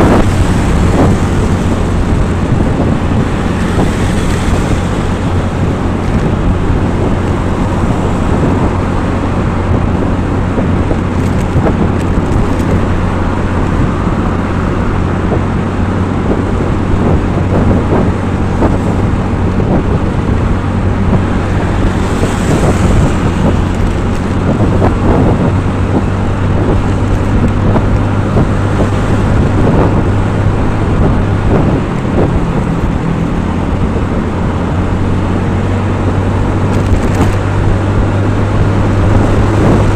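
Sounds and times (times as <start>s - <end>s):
road rumble: 0.0s - 39.9s
vehicle engine hum: 0.0s - 39.9s
wind on microphone: 0.0s - 39.9s.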